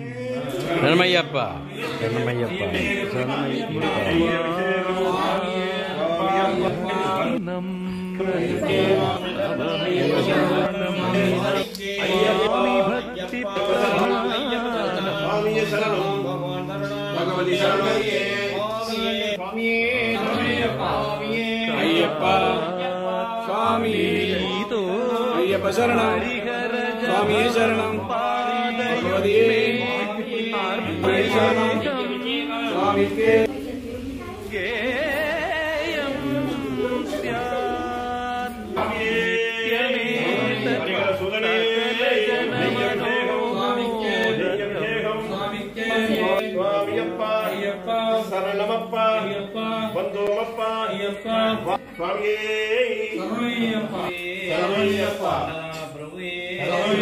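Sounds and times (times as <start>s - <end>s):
voices chanting together: 0.0s - 57.0s.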